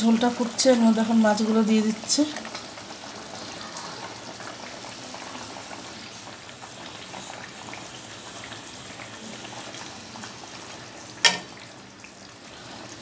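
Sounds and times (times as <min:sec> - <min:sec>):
curry boiling and bubbling: 0:00.0 - 0:13.0.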